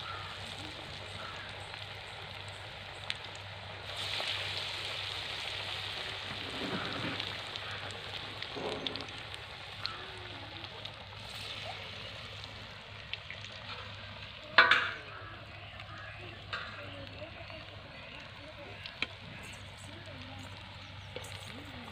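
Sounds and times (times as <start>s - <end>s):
food deep-frying in hot oil: 0.0s - 21.9s
oil bubbling and popping: 0.0s - 21.9s.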